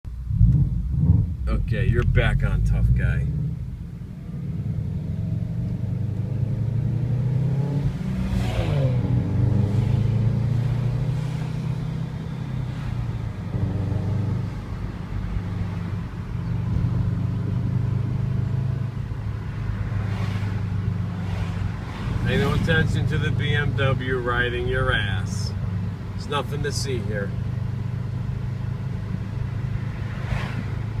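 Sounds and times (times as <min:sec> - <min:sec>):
car engine and exhaust drone: 0:00.0 - 0:31.0.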